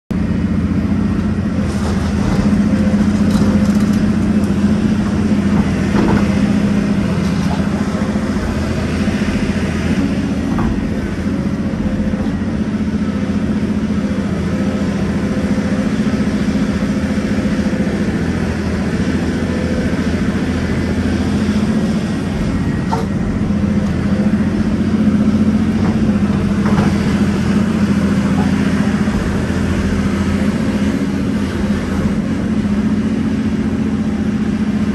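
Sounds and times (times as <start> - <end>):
excavator diesel engine and hydraulics: 0.1 - 34.9.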